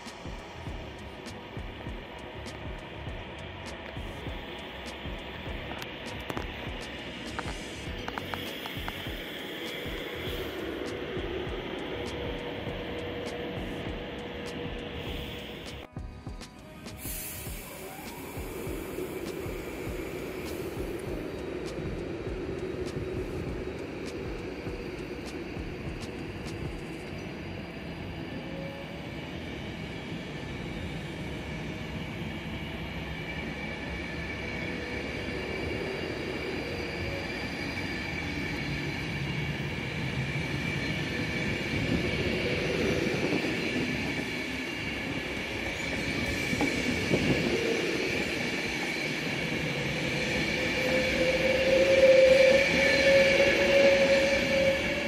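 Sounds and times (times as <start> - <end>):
electric train accelerating: 0.0 - 55.0.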